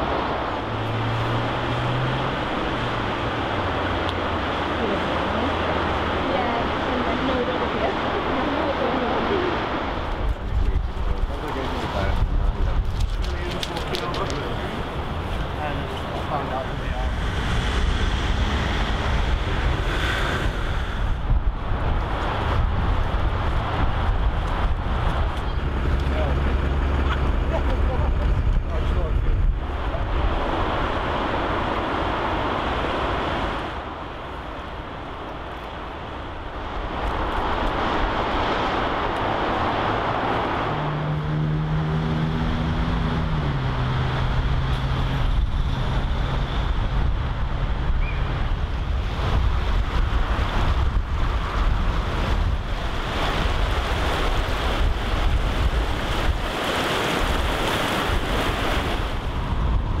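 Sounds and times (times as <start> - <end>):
floodwater rushing: 0.0 - 60.0
vehicle engine humming: 0.0 - 60.0
wind buffeting microphone: 0.0 - 60.0.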